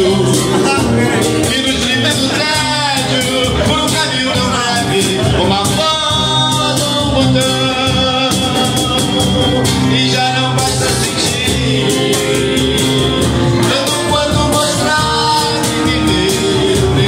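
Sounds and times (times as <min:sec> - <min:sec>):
person singing into a microphone: 0:00.0 - 0:17.0
strummed acoustic guitars: 0:00.0 - 0:17.0.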